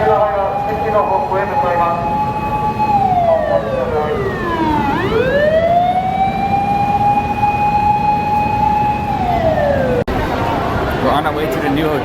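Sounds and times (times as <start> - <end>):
emergency siren wailing: 0.0 - 10.1.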